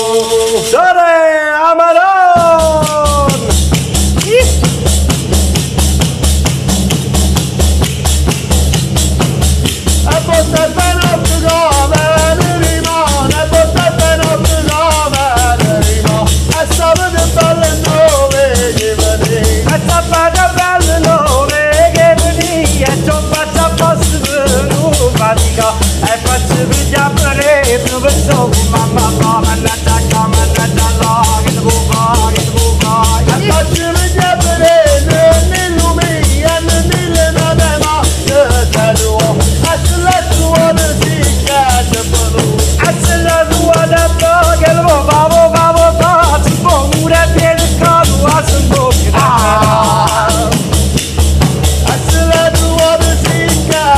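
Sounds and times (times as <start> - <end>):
man singing ornamented melody: 0.0 - 5.0, 10.0 - 50.8, 51.8 - 53.9
frame drums with jingles: 0.0 - 53.9.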